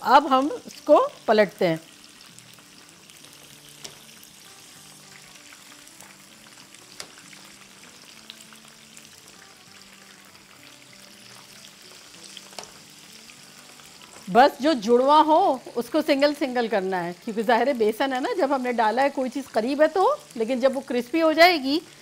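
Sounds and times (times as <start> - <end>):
food deep-frying in oil: 0.0 - 22.0.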